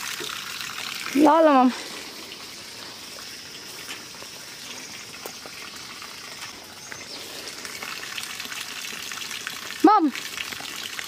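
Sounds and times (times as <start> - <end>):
water splashing into basin: 0.0 - 11.0.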